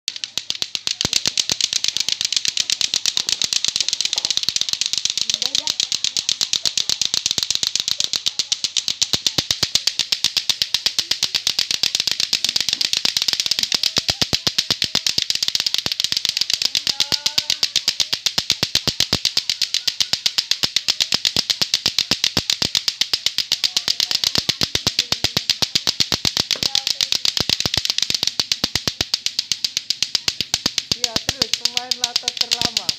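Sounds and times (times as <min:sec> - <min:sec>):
clacker toy balls clacking: 0:00.0 - 0:32.9.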